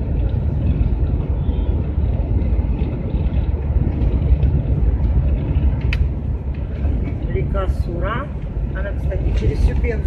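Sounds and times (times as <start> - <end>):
van engine and tyre rumble: 0.0 - 10.0.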